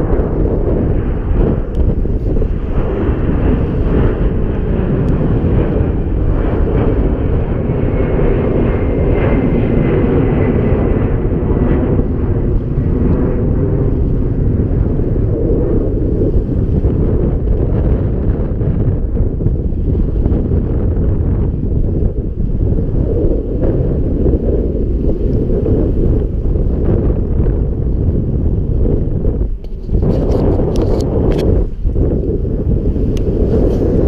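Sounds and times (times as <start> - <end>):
jet airliner rumble: 0.0 - 34.0
wind buffeting microphone: 0.0 - 34.0.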